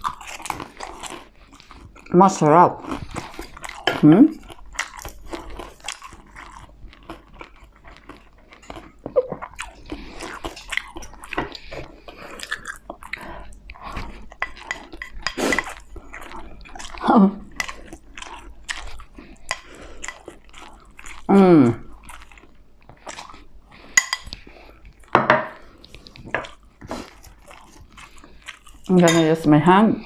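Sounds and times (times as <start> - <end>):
crunchy chewing: 0.0 - 2.1, 2.8 - 29.0.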